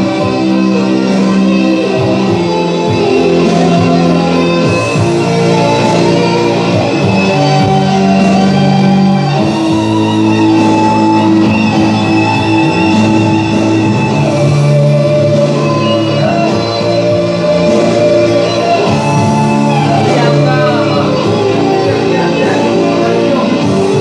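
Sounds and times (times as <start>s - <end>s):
rock backing track with guitar: 0.0s - 24.0s.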